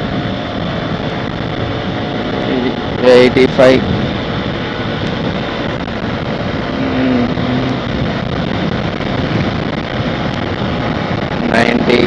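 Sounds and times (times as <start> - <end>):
motorcycle engine at speed: 0.0 - 12.0
wind noise on helmet microphone: 0.0 - 12.0.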